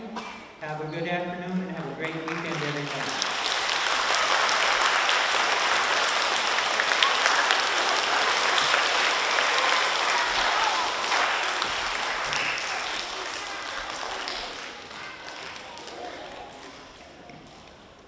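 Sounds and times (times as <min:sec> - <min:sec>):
children applauding: 0:01.7 - 0:18.0.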